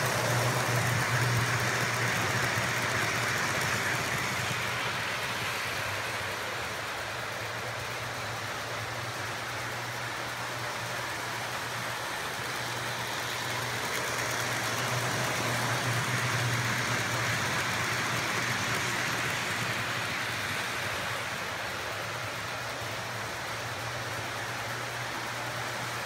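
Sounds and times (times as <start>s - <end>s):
model train rumbling on track: 0.0s - 26.0s.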